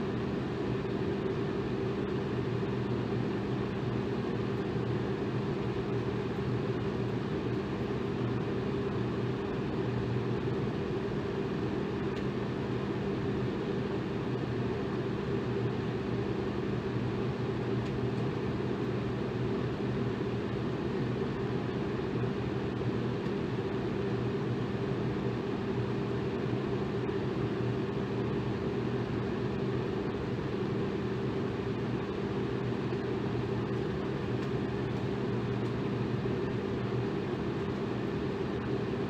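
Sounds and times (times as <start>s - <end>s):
electric fan running: 0.0s - 39.0s.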